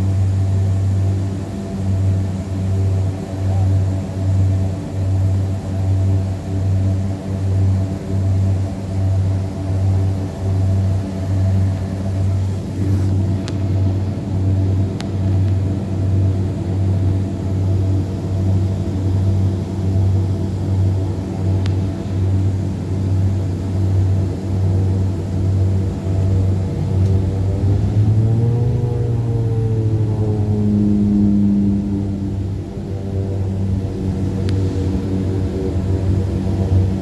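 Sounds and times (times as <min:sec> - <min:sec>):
aircraft engines droning in cabin: 0:00.0 - 0:37.0.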